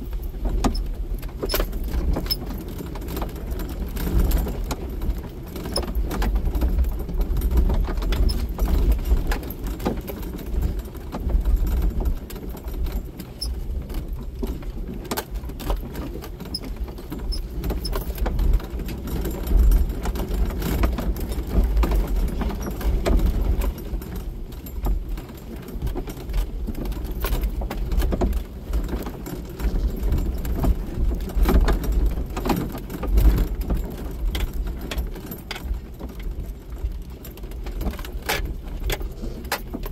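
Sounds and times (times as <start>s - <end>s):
engine and tyres rumble on stones: 0.0s - 39.9s
vehicle rattles and knocks: 0.0s - 39.9s.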